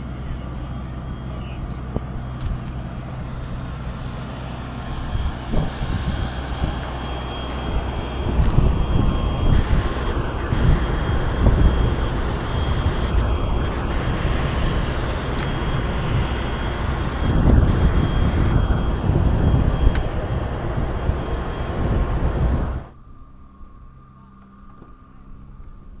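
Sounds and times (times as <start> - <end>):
aircraft engines roaring: 0.0 - 26.0
thin constant whine: 0.0 - 26.0
wind buffeting microphone: 1.7 - 22.9.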